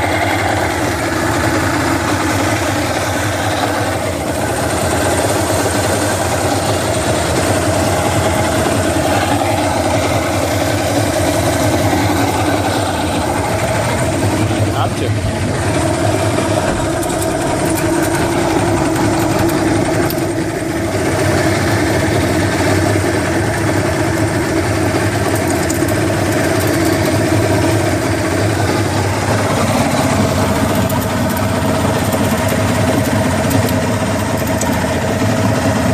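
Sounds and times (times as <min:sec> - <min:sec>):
motor rattling: 0:00.0 - 0:35.9
outboard motor running: 0:00.0 - 0:35.9.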